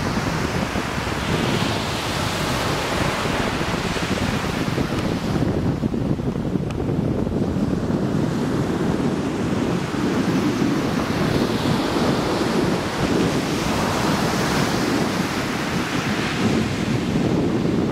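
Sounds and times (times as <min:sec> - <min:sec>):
surf breaking on beach: 0:00.0 - 0:17.9
wind buffeting microphone: 0:00.0 - 0:17.9.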